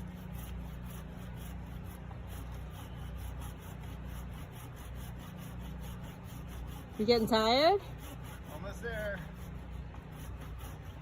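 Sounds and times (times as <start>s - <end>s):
hand saw cutting wood: 0.0s - 11.0s.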